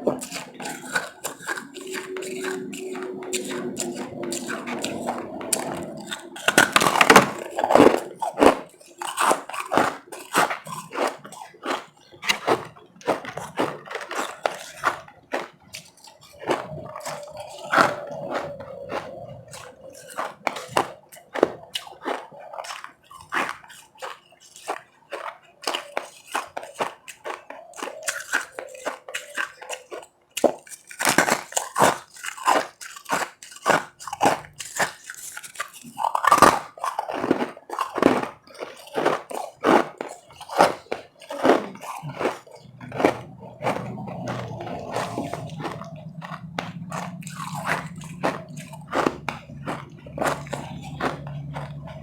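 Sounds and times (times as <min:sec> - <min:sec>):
crisp crunches of chewing ice: 0:00.0 - 0:52.0.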